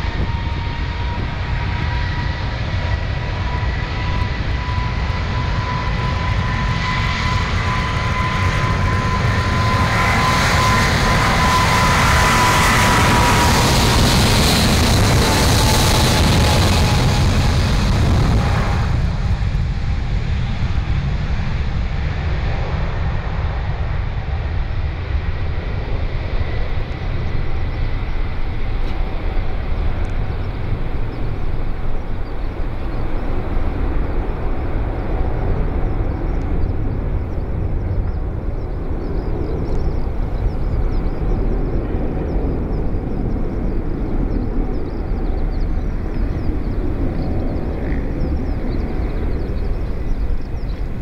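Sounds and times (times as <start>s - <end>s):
faint high jet whine: 0.0s - 51.0s
jet engines rumbling: 0.0s - 51.0s.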